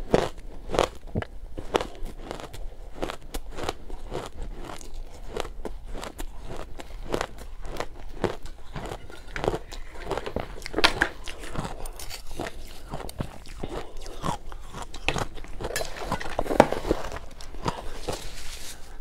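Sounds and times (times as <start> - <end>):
crunching and chewing ice: 0.0 - 19.0.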